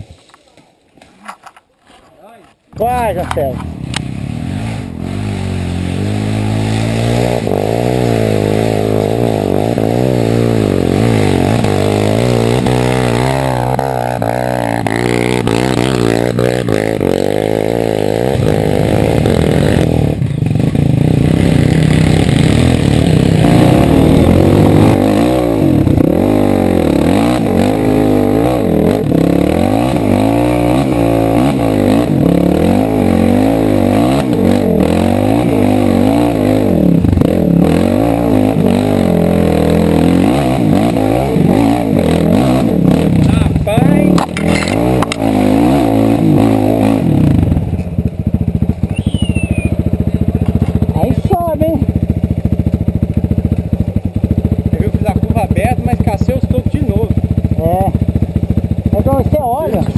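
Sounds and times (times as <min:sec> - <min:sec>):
dirt bike engine revving: 0:02.7 - 0:59.9.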